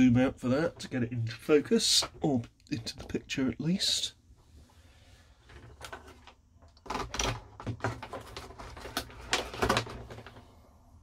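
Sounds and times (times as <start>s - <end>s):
rustling cables: 0.0s - 10.8s.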